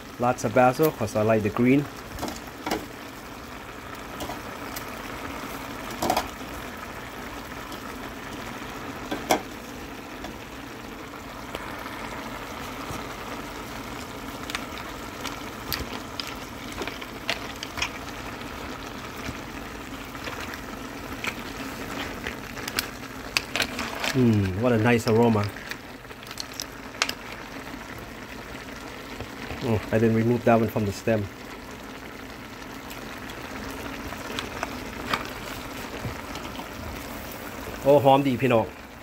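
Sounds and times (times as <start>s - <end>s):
sauce bubbling in frying pan: 0.0s - 39.0s.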